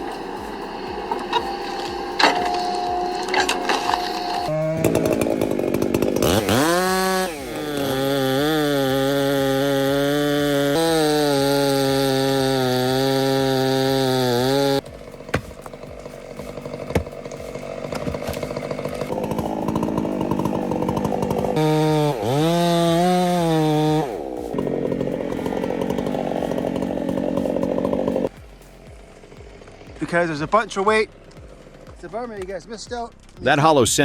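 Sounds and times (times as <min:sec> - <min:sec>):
chainsaw running: 0:00.0 - 0:34.0.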